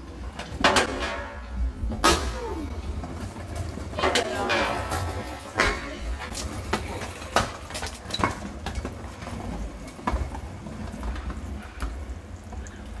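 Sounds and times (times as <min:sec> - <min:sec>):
scooter rattling: 0:00.2 - 0:13.0.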